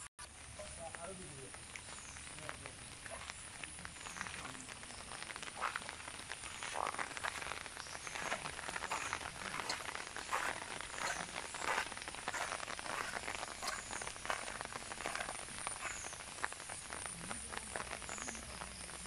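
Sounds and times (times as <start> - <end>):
crackling and rustling background: 0.0 - 19.0
frogs croaking: 0.3 - 19.0.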